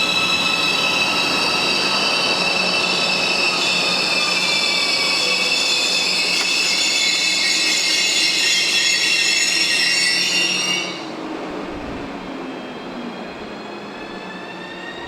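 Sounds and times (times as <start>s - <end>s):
train wheels squealing: 0.0s - 11.3s, 12.4s - 15.0s.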